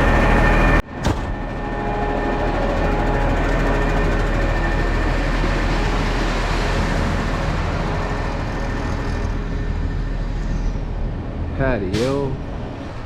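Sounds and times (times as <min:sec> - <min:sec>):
rushing noise: 0:00.0 - 0:13.0.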